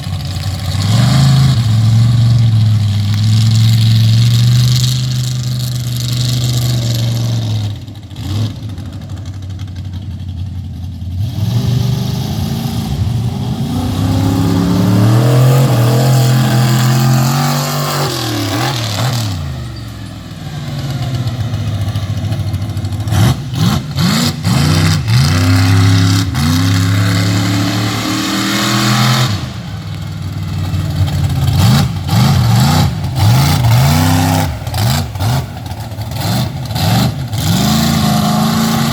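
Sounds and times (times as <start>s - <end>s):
truck engine revving hard: 0.0s - 9.4s, 11.2s - 38.9s.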